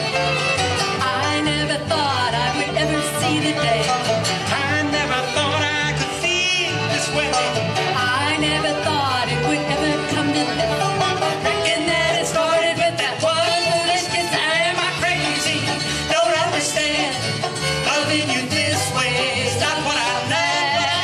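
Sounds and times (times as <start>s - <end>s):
bluegrass band playing: 0.0s - 21.0s
upright bass plucking: 0.0s - 21.0s.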